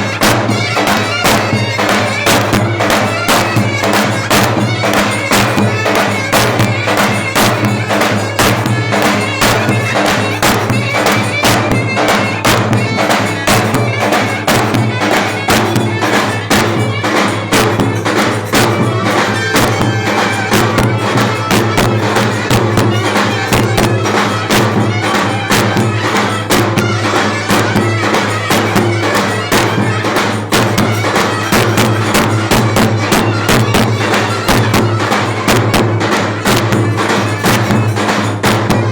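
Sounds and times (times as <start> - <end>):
reedy clarinet melody: 0.0 - 38.1
fast drum beat: 0.0 - 38.9.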